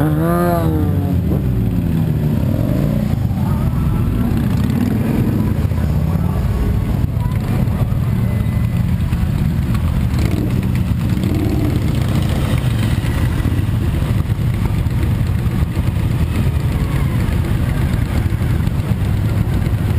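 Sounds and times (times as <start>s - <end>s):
group of motorcycles riding past: 0.0s - 19.9s.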